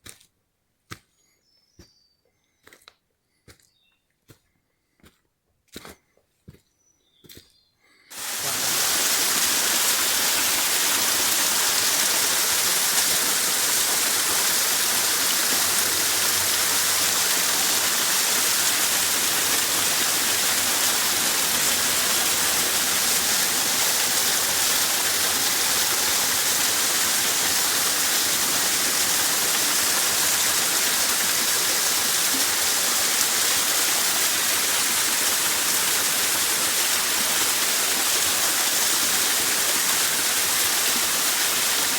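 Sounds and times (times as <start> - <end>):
rushing water: 8.1 - 41.9.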